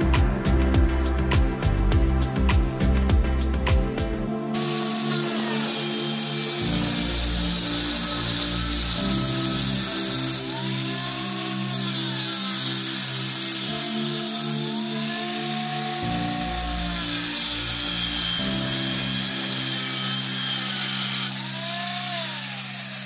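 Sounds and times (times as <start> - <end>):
background music: 0.0 - 22.9
angle grinder cutting steel: 4.5 - 23.0.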